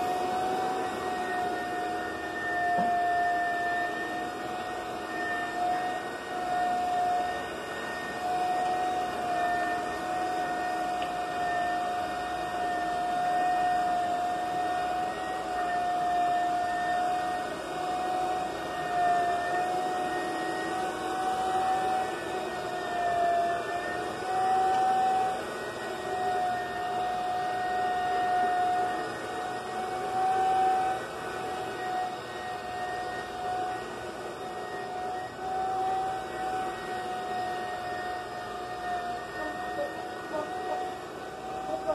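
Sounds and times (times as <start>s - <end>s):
floor burnisher whining: 0.0s - 41.9s.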